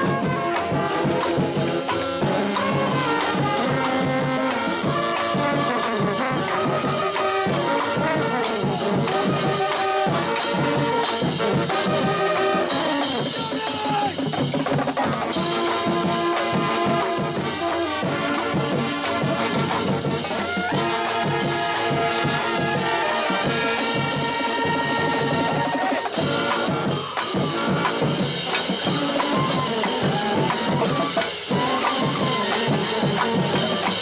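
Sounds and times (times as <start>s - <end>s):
brass and saxophones: 0.0s - 34.0s
drums: 0.0s - 34.0s.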